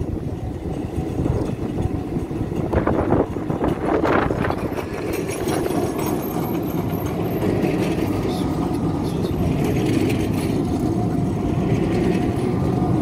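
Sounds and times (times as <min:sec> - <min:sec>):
tram rumbling: 0:00.0 - 0:13.0.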